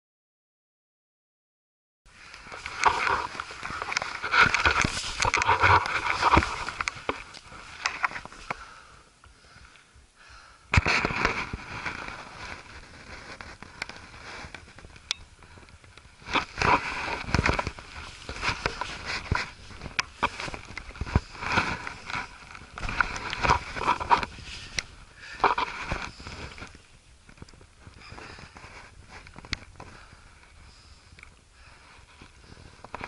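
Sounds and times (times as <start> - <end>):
clothing and gear rustling: 2.1 - 9.8, 10.8 - 33.0.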